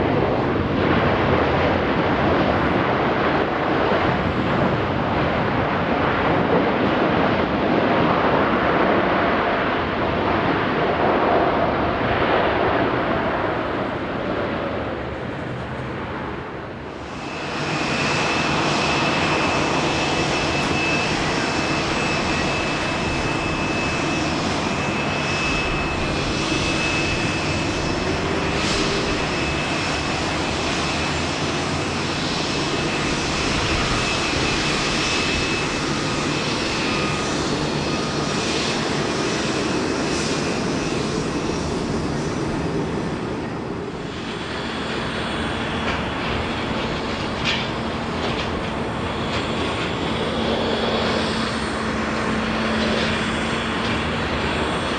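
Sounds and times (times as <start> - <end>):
jet engines roaring: 0.0 - 54.9.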